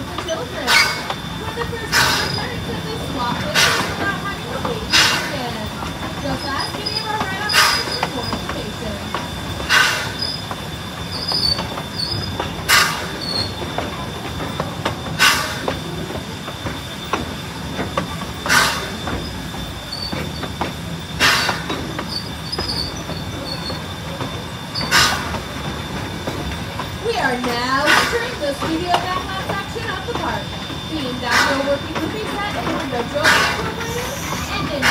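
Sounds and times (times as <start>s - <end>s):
loud train clatter: 0.0s - 34.9s
train wheels rumbling on track: 0.0s - 34.9s.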